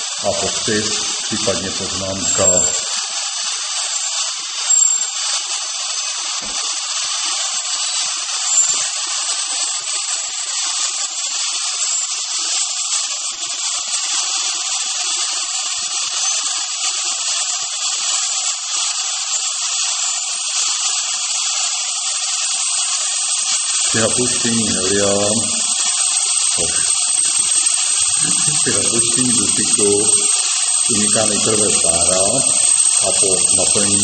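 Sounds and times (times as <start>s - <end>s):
nitrogen vapour hissing: 0.0s - 34.0s.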